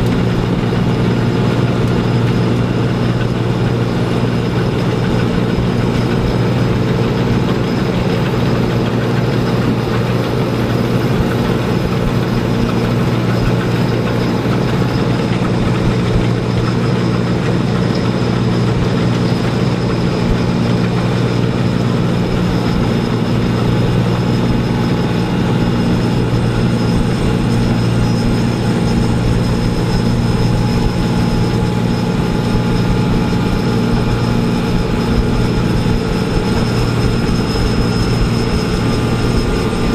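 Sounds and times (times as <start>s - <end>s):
heavy diesel engine running: 0.0s - 39.9s
thin high whine: 0.0s - 39.9s.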